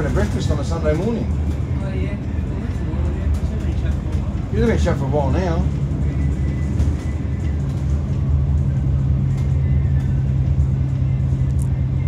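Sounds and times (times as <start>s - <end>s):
bus engine drone: 0.0s - 12.0s
road noise: 0.0s - 12.0s.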